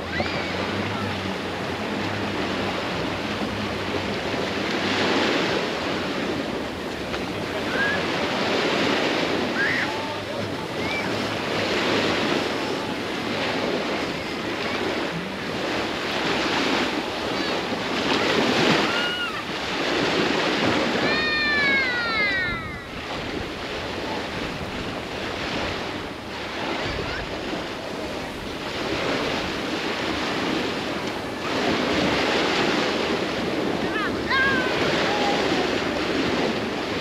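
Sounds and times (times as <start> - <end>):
surf washing onto beach: 0.0 - 37.0.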